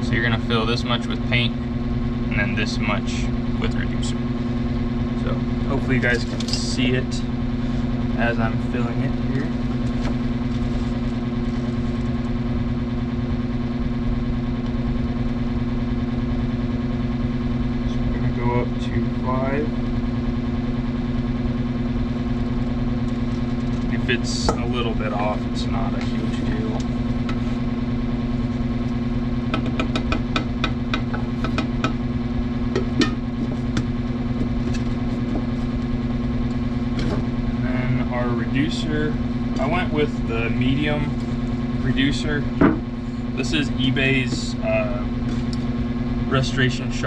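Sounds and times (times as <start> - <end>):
electric motor hum: 0.0 - 47.0.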